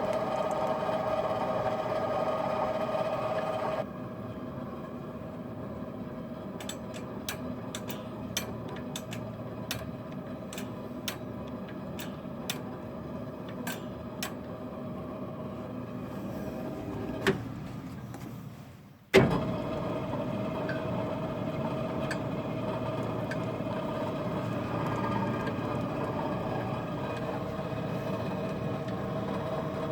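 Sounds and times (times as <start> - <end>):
washing machine motor hum: 0.0 - 29.9.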